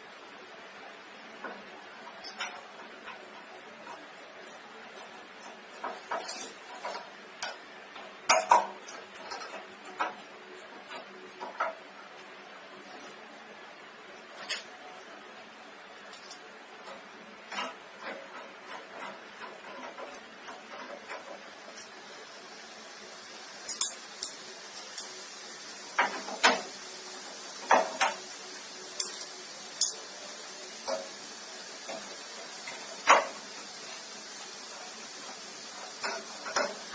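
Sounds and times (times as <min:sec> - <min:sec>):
faint steady hiss: 0:00.0 - 0:36.9.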